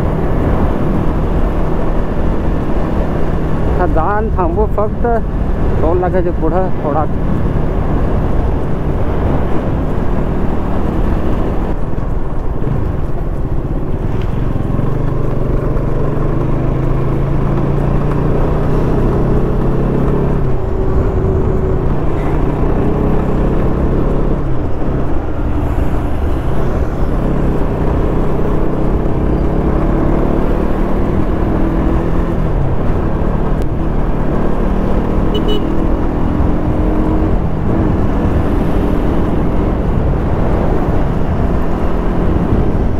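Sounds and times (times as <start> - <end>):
motorcycle engine revving: 0.0 - 12.1, 12.9 - 42.9
wind rumble on microphone: 0.0 - 42.9.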